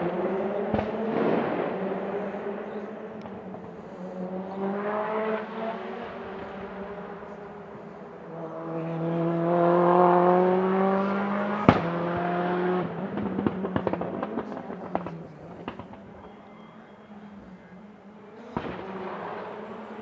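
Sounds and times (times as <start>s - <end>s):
exhaust crackles and pops: 0.0s - 8.9s, 10.0s - 16.4s, 17.1s - 20.0s
turbocharged engine revving: 0.0s - 20.0s.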